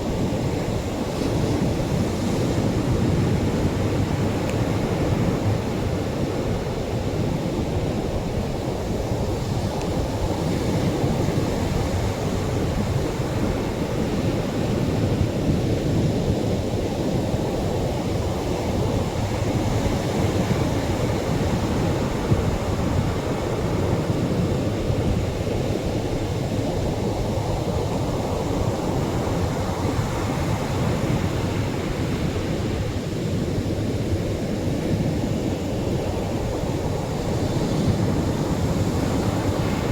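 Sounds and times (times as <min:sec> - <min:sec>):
surf washing on shore: 0:00.0 - 0:39.9.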